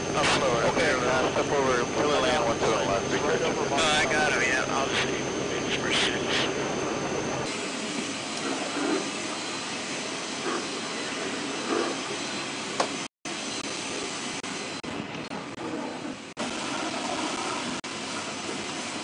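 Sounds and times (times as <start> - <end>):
aircraft engines running: 0.0 - 19.0.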